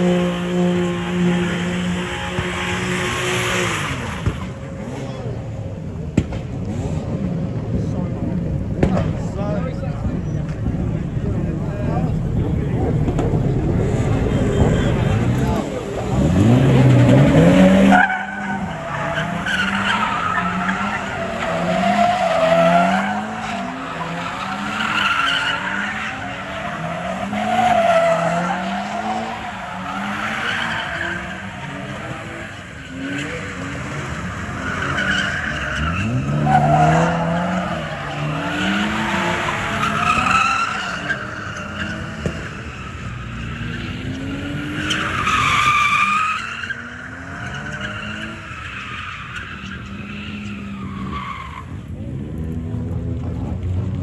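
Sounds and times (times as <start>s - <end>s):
tires squealing: 0.0s - 53.8s
car engine revving: 0.0s - 54.0s.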